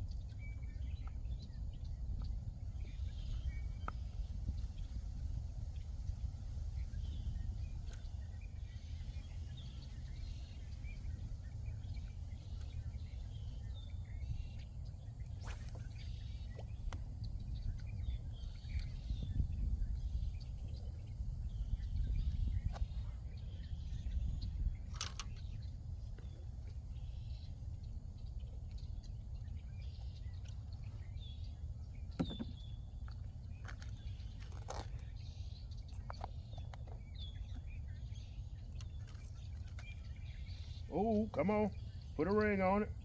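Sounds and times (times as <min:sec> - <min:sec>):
low outdoor rumble: 0:00.0 - 0:43.0
small birds chirping: 0:00.0 - 0:43.0.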